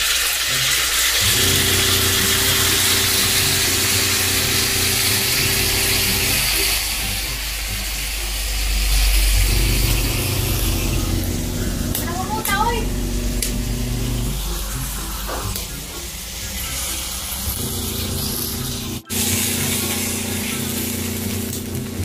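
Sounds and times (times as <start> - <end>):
sauce sizzling in a wok: 0.0 - 12.0, 12.7 - 22.0
low machine hum: 1.2 - 22.0.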